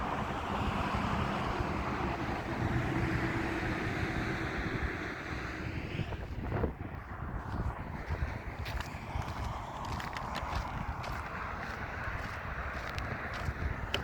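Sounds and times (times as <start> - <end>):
vehicle driving past: 0.0 - 14.0.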